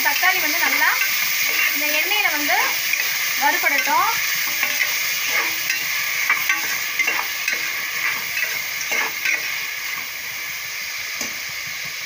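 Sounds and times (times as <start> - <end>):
vegetables sizzling in oil: 0.0 - 12.0
utensil scraping pot: 0.1 - 10.1.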